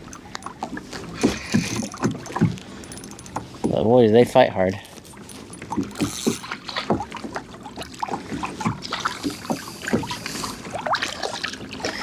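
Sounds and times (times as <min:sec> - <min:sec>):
water splashing against kayak: 0:00.0 - 0:03.9, 0:04.9 - 0:12.0.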